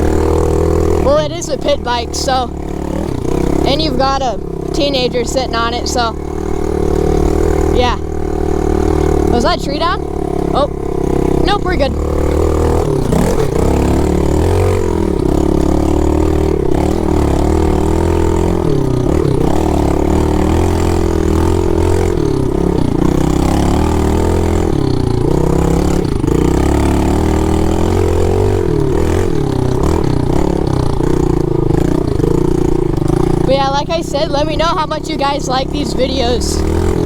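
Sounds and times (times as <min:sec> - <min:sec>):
small motorcycle engine revving: 0:00.0 - 0:37.0.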